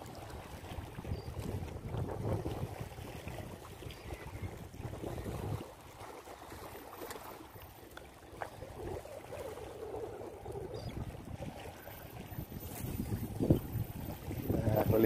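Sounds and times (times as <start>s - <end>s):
wind buffeting microphone: 0.0s - 6.6s, 8.4s - 15.0s
small waves lapping on rocks: 0.0s - 15.0s.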